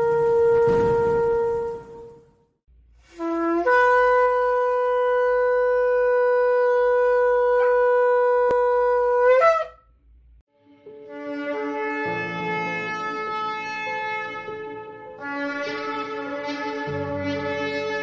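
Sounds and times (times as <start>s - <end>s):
shofar blast: 0.0s - 2.4s, 3.1s - 9.8s, 11.1s - 18.0s.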